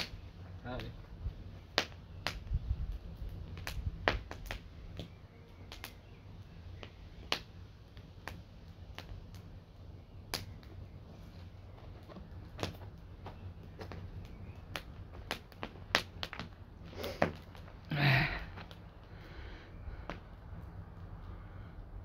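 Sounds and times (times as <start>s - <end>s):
burning wood popping: 0.0s - 22.0s
campfire crackling: 0.0s - 22.0s.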